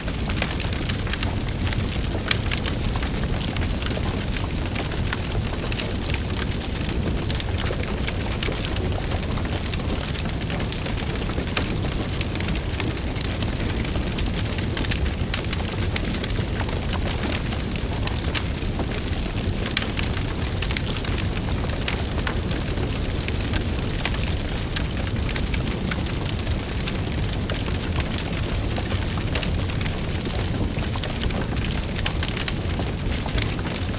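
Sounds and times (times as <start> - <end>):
fire popping and snapping: 0.0 - 33.9
low rumble of flames: 0.0 - 33.9
wood fire crackling: 0.0 - 33.9.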